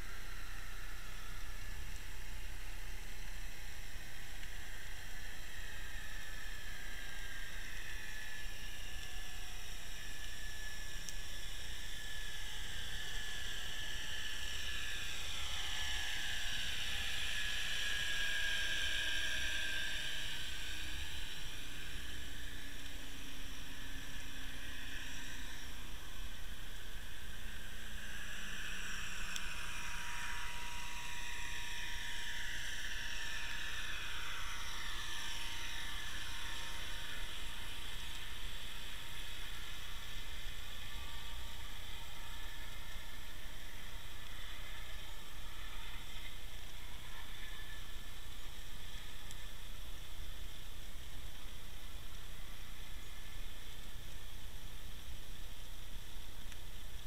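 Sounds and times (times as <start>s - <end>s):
boat motor and propeller whine: 0.0s - 57.0s.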